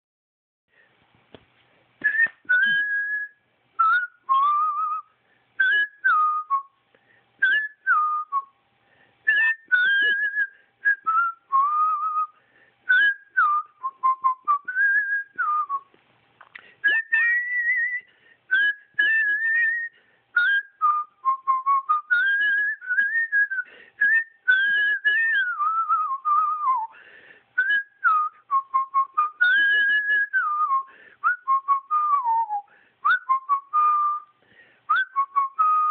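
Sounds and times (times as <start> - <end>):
person whistling a tune: 2.0 - 6.8, 7.4 - 8.6, 9.2 - 15.9, 16.8 - 27.0, 27.6 - 35.9.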